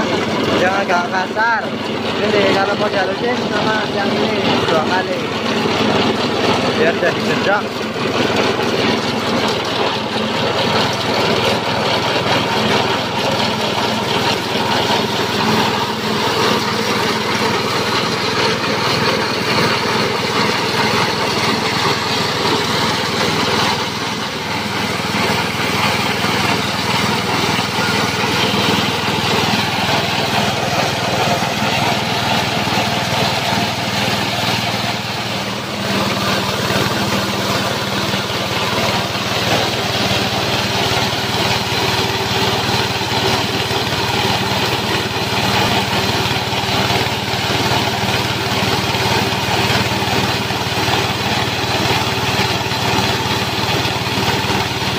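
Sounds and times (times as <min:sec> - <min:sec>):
grinder grinding dry material: 0:00.0 - 0:54.9
small petrol engine running: 0:00.0 - 0:54.9.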